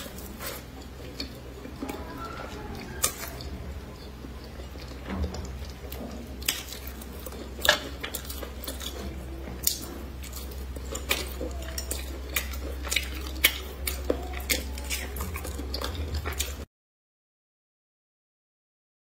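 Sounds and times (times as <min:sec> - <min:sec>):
soft wet eating sounds: 0:00.0 - 0:16.7
steady low hum: 0:00.0 - 0:16.7.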